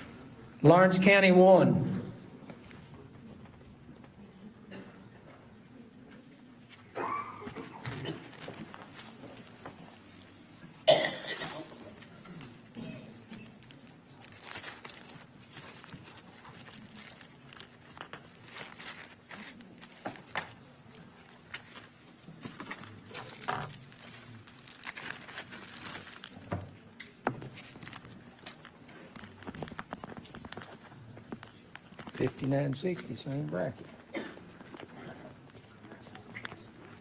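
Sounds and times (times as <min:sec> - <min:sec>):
soft rustles: 0:06.1 - 0:37.0.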